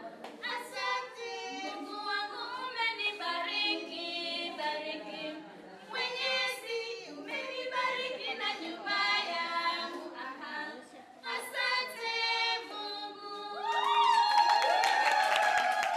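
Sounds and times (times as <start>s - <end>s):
women singing a cappella: 0.0s - 14.5s.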